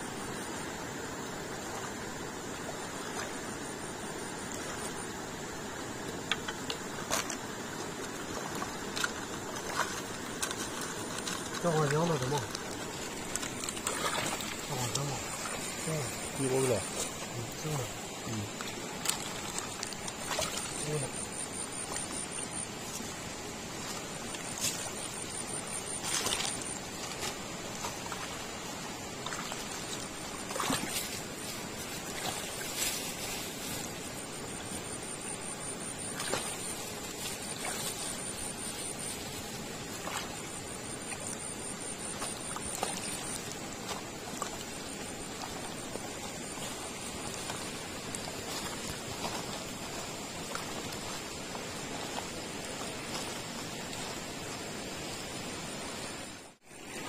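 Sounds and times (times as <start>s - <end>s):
river flowing over stones: 0.0s - 57.0s.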